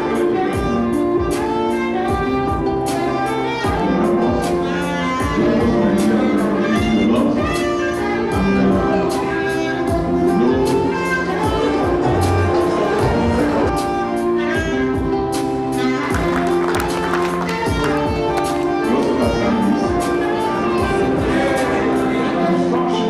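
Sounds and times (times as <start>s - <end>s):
instrumental background music: 0.0s - 23.0s.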